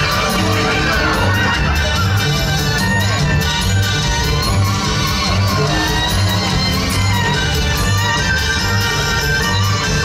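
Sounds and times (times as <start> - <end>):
stage show music with low beat: 0.0 - 10.0.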